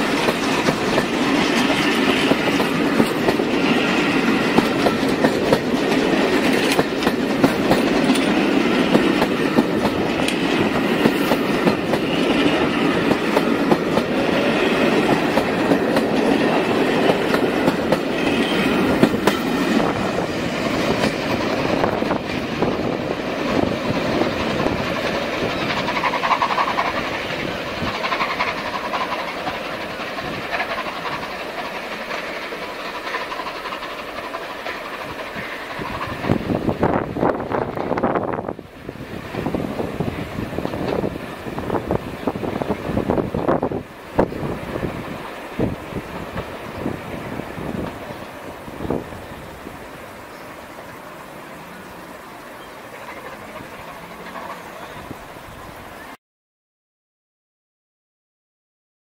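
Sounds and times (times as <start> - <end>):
train wheels clicking over rail joints: 0.0 - 50.5, 52.4 - 55.4.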